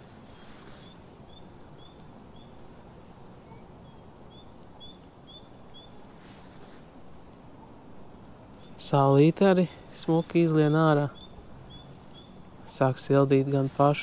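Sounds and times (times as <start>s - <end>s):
background hiss: 0.0s - 14.0s
songbird chirping: 0.0s - 14.0s.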